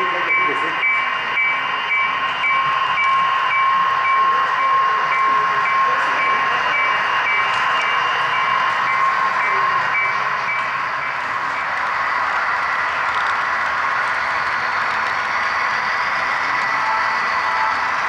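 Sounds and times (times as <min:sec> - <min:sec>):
model locomotive diesel engine sound: 0:00.0 - 0:18.0.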